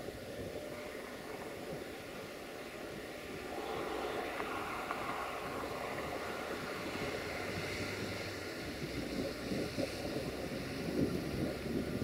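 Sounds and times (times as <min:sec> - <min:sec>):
diesel locomotive engine rumble: 0:00.0 - 0:12.0
noisy hiss: 0:00.0 - 0:12.0.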